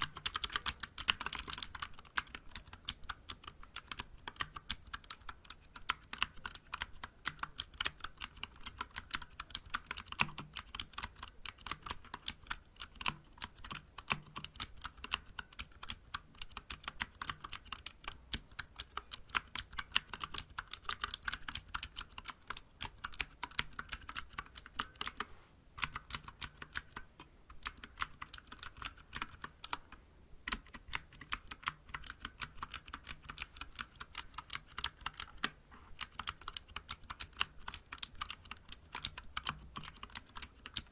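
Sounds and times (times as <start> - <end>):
fast typing on mechanical keyboard: 0.0 - 25.2, 25.8 - 40.9.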